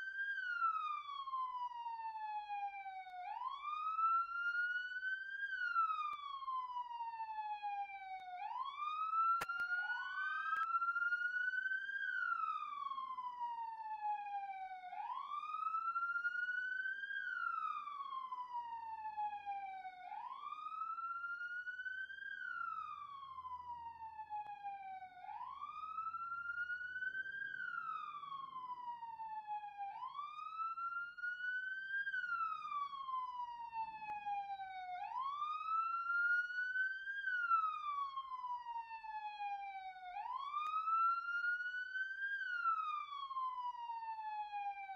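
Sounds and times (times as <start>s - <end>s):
police siren wailing: 0.0s - 44.9s.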